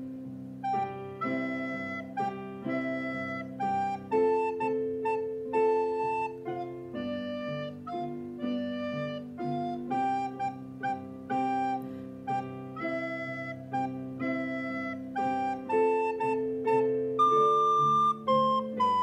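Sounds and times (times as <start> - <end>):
recorder melody: 0.0 - 19.0.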